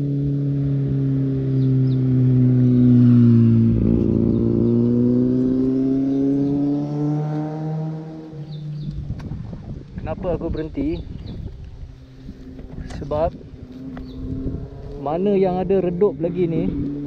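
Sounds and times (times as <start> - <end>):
motorcycle engine passing: 0.0 - 9.7, 11.2 - 17.0.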